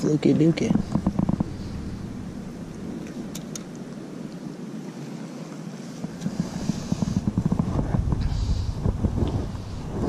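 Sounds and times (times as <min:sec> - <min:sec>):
wind noise on microphone: 0:00.0 - 0:04.3, 0:06.0 - 0:10.0.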